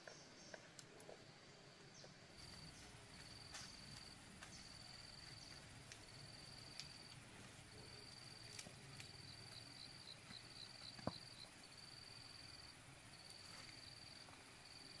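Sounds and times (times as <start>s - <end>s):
insects trilling: 1.9s - 15.0s.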